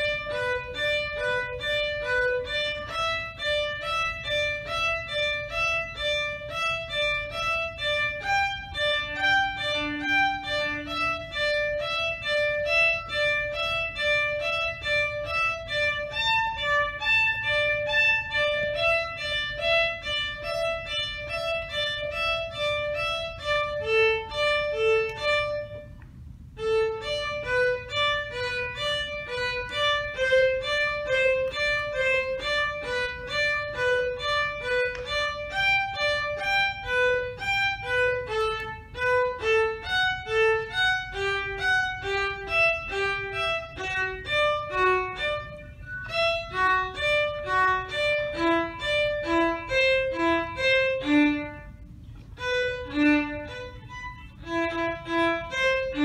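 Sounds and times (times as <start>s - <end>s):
violin playing short bowed notes: 0.0s - 56.0s.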